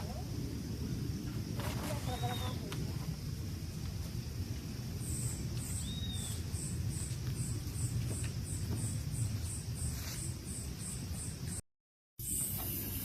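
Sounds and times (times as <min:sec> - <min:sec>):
insect chirping: 0:00.0 - 0:11.6, 0:12.2 - 0:13.0.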